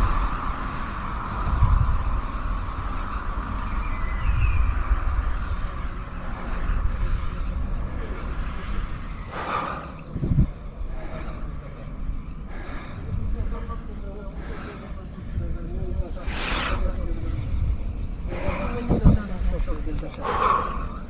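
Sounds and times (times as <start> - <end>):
traffic hum: 0.0 - 21.0
wind rumbling on microphone: 0.0 - 21.0.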